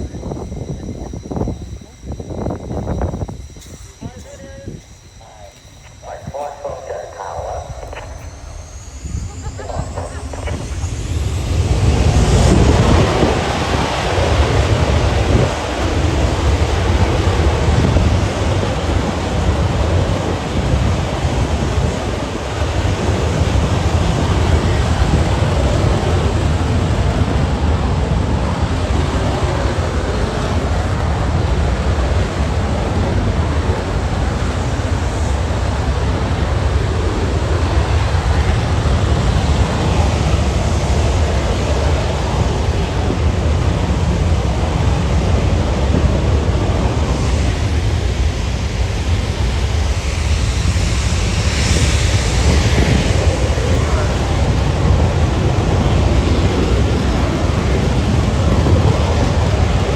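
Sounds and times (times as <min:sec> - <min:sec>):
jet engine rumble: 0:00.0 - 0:59.9
wind buffeting microphone: 0:00.0 - 0:59.9.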